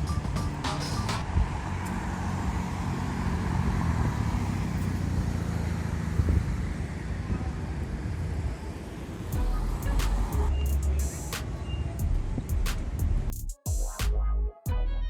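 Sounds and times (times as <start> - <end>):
road traffic rumble: 0.0 - 13.5.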